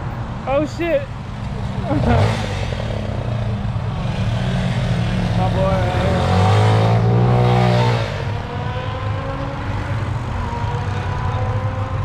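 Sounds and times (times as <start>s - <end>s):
vehicle engine revving and running: 1.3s - 12.0s.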